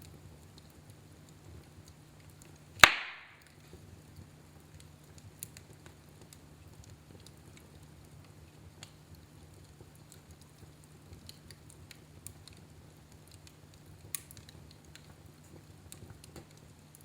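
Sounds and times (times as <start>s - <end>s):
wood fire crackling: 0.0s - 17.0s
burning wood popping: 0.1s - 17.0s.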